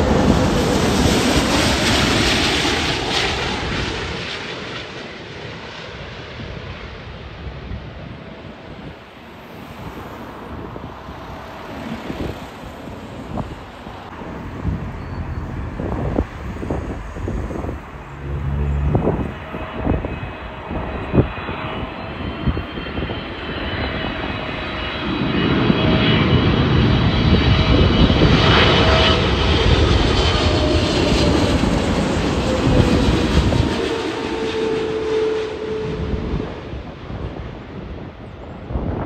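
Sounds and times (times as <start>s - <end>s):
jet engine rumble: 0.0s - 39.0s
wind buffeting microphone: 7.5s - 39.0s.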